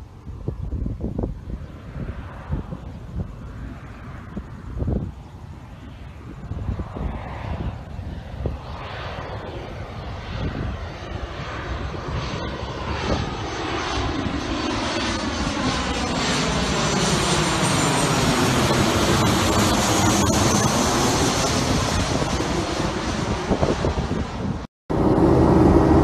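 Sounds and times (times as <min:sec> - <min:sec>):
jet airliner flying overhead: 0:00.0 - 0:26.0.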